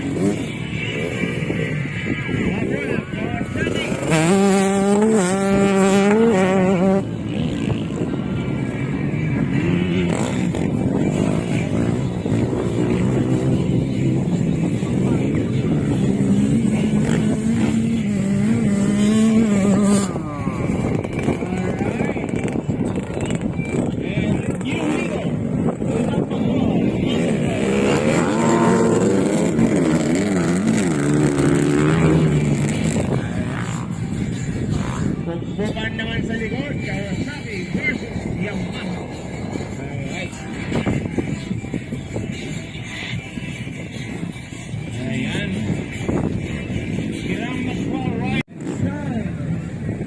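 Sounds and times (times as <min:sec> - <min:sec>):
motocross bikes revving: 0:00.0 - 0:50.0.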